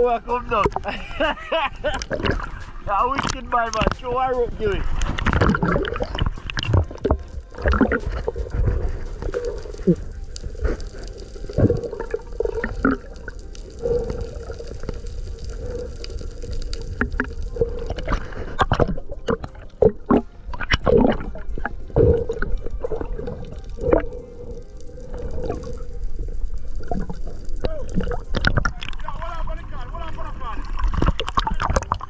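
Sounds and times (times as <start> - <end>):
water gurgling and bubbling: 0.5 - 32.0.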